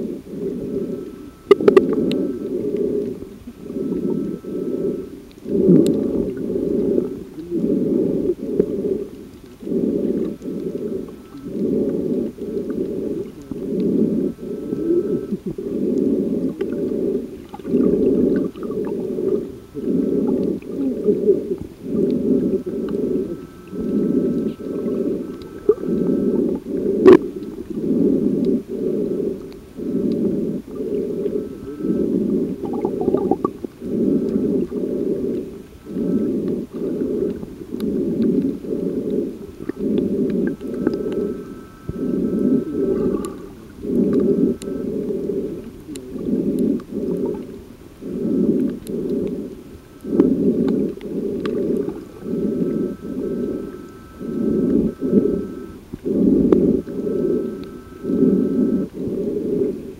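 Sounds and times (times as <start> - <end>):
underwater rhythmic surging: 0.0 - 59.9.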